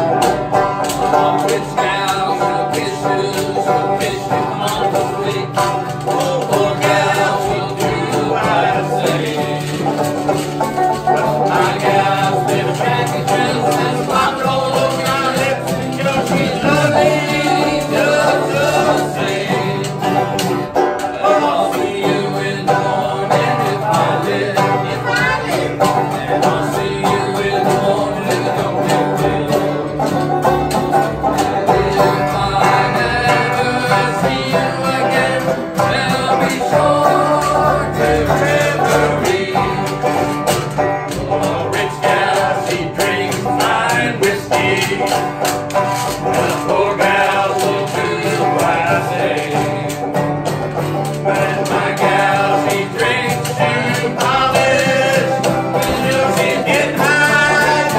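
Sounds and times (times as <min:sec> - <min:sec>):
banjo: 0:00.0 - 0:57.9
men singing: 0:00.0 - 0:57.9
strummed acoustic guitar: 0:00.0 - 0:57.9
washtub bass: 0:00.0 - 0:57.9.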